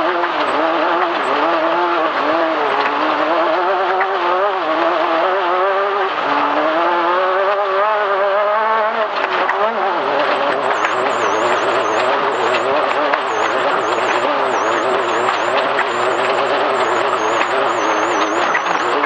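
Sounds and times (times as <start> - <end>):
race car engine revving: 0.0 - 19.0
road and wind noise: 0.0 - 19.0.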